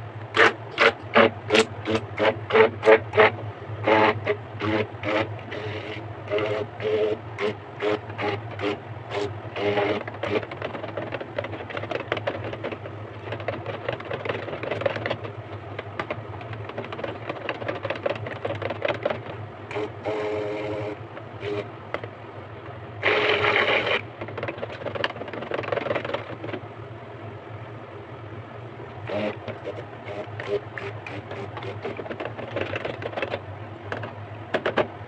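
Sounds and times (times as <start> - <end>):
stick blender churning batter: 0.0 - 22.0, 23.0 - 26.6, 29.0 - 33.4.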